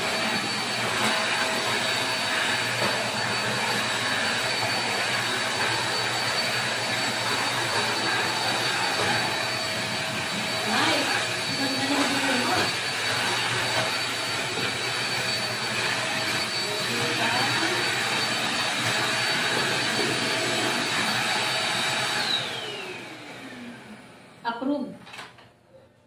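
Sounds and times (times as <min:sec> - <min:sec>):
vacuum motor winding down: 0:00.0 - 0:24.4
vacuum cleaner whirring and whining: 0:00.0 - 0:25.4.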